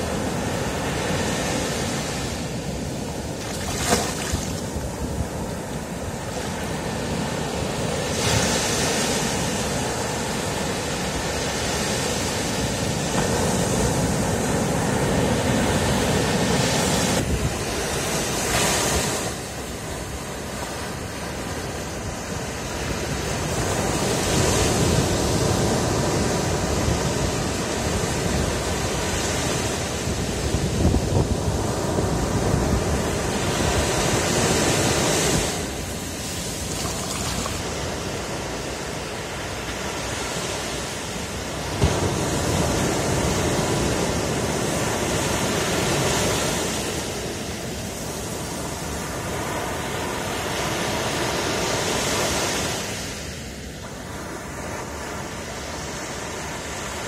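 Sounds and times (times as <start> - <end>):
waves breaking on sandy beach: 0.0 - 57.0.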